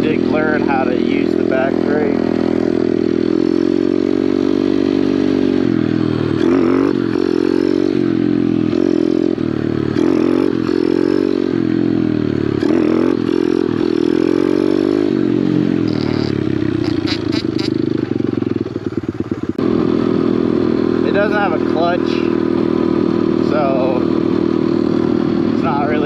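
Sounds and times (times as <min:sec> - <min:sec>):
small motorcycle engine revving: 0:00.0 - 0:26.0.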